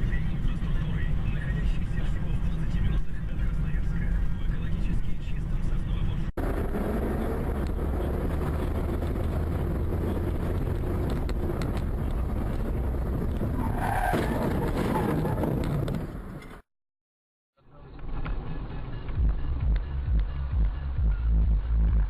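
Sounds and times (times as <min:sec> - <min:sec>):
vehicle rumble: 0:00.0 - 0:16.7, 0:17.6 - 0:22.0.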